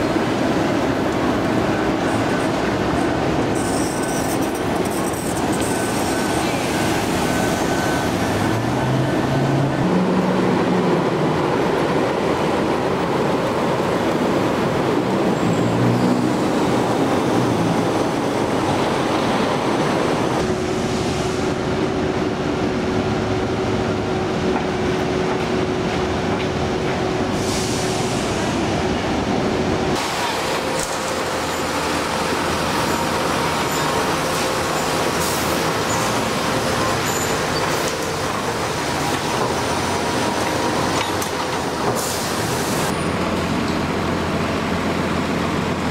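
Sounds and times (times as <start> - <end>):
street traffic: 0.0 - 45.9.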